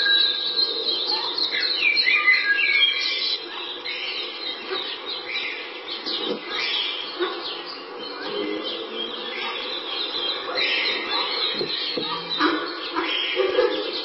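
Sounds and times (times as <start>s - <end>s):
birds chirping and singing: 0.0s - 14.0s.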